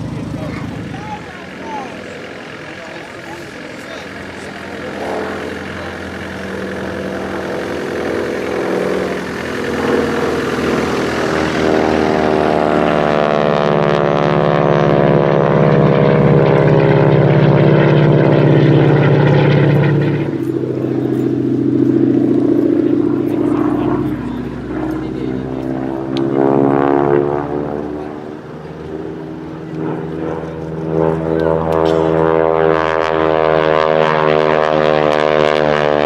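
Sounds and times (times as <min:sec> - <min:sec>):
propeller aircraft flying past: 0:00.0 - 0:36.0.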